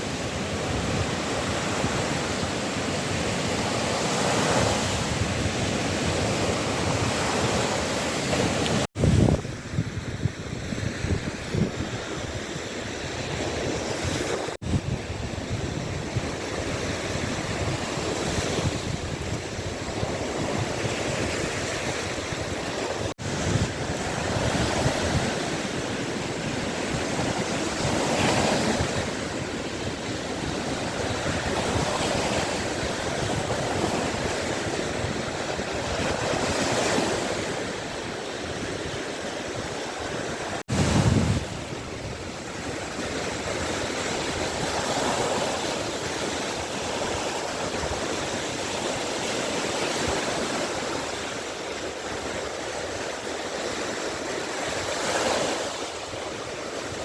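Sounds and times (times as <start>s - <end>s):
waves washing on shore: 0.0s - 57.0s
wind on microphone: 0.0s - 57.0s.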